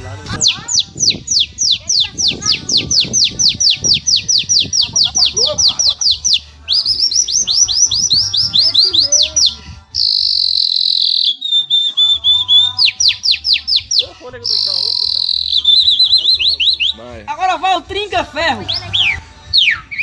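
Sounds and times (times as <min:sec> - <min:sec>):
whistled canary song imitation: 0:00.3 - 0:17.1, 0:18.5 - 0:20.0.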